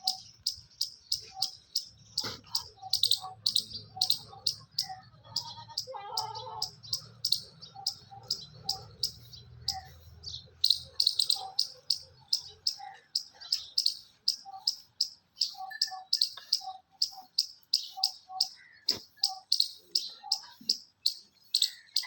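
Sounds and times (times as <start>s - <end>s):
birds chirping: 0.0s - 22.0s
soft low bird calls: 0.0s - 22.0s.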